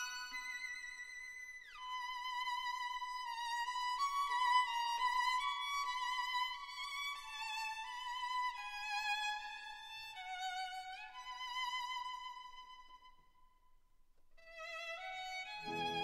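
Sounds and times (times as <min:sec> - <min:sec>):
slow violin melody: 0:00.0 - 0:13.1, 0:14.4 - 0:16.0.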